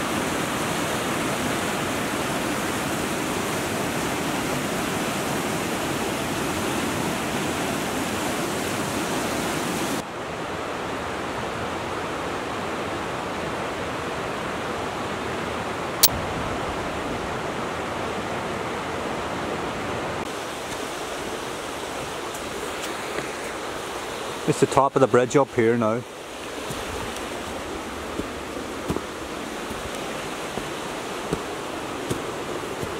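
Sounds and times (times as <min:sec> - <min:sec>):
river rushing over rapids: 0:00.0 - 0:32.9.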